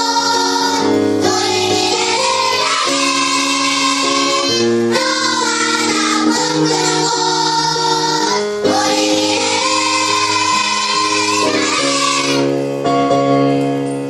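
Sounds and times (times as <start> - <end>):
children singing: 0.0 - 12.6
children's song music: 0.0 - 14.0.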